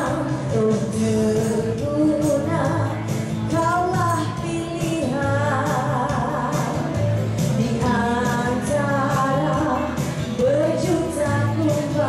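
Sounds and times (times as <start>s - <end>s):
pop backing track with beat: 0.0s - 12.0s
woman singing into a microphone: 0.0s - 12.0s.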